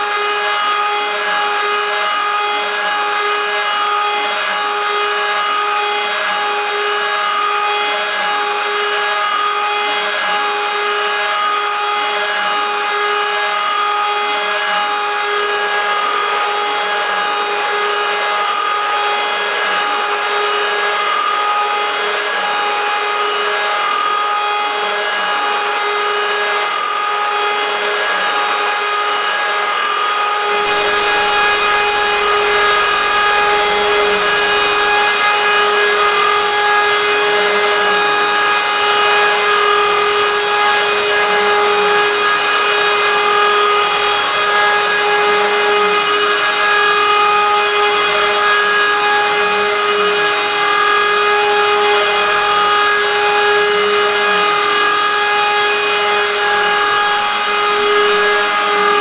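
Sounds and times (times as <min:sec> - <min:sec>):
router spindle whining cutting metal: 0:00.0 - 0:59.0.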